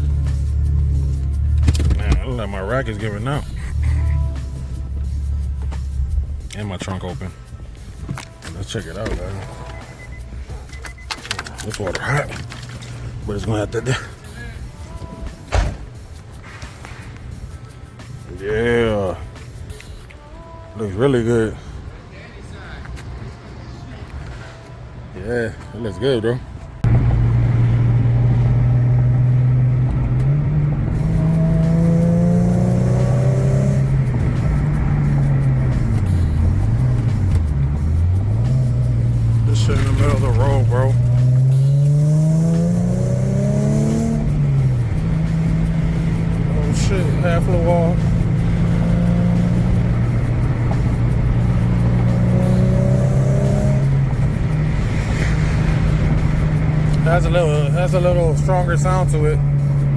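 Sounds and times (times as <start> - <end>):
car engine and exhaust revving: 0.0 - 18.4, 26.8 - 59.9.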